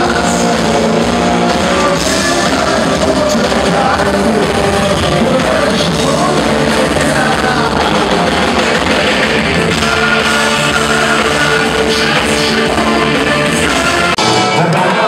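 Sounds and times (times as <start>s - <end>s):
person singing: 0.0s - 15.0s
rock band playing live: 0.0s - 15.0s.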